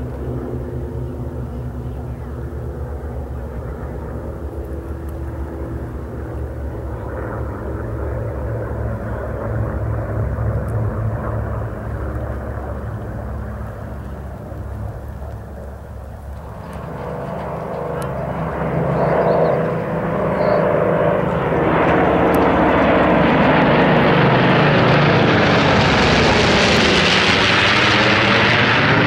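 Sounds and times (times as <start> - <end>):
propeller planes droning overhead: 0.0 - 29.0.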